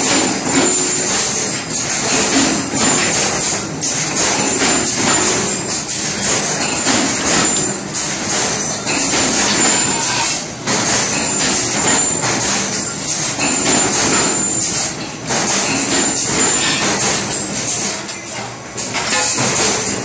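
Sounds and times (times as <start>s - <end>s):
jingling percussion: 0.0s - 18.0s.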